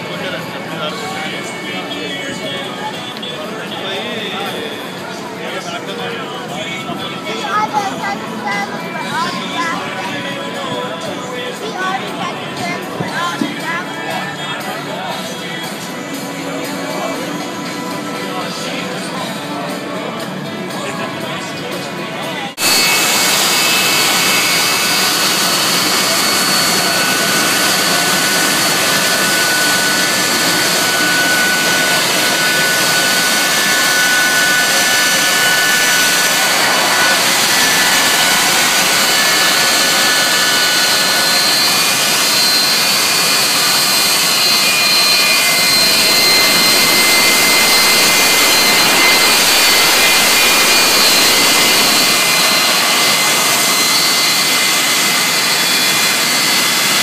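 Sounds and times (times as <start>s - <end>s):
high turbine whines: 0.0s - 57.0s
jet dryers roaring: 0.0s - 57.0s.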